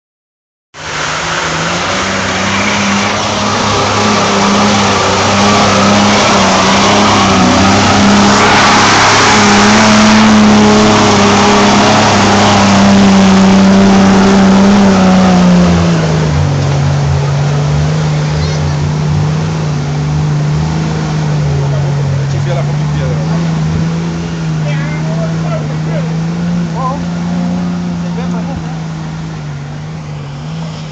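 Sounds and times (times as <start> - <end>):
off-road vehicle engine under load: 0.7 - 30.9.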